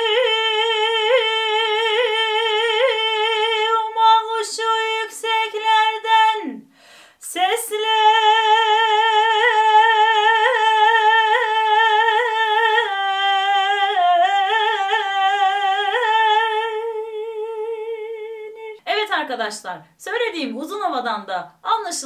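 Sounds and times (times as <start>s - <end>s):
woman singing unaccompanied: 0.0s - 22.0s.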